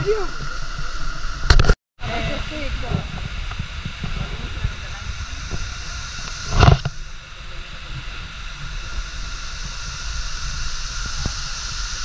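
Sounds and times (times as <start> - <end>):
low rumbling on microphone: 0.0 - 12.0
rushing hiss: 0.0 - 12.0.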